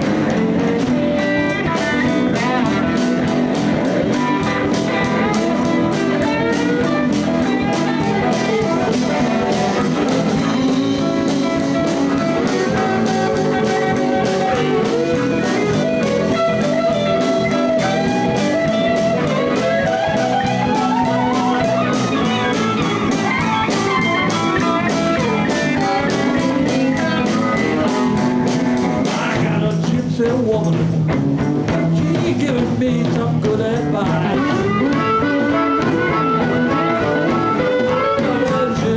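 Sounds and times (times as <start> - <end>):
blues band playing: 0.0 - 38.9
drum beat: 0.0 - 38.9
lead guitar with bent notes: 0.0 - 38.9.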